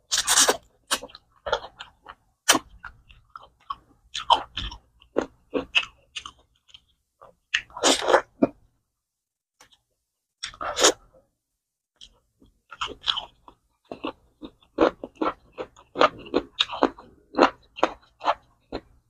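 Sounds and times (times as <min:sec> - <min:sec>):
person chewing and crunching: 0:00.0 - 0:08.6, 0:12.0 - 0:19.0.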